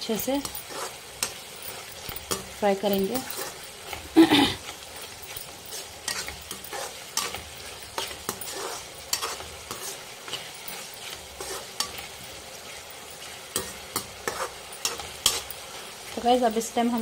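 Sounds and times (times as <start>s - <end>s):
metal spatula scraping a pan: 0.0s - 17.0s
minced meat sizzling in a pan: 0.0s - 17.0s.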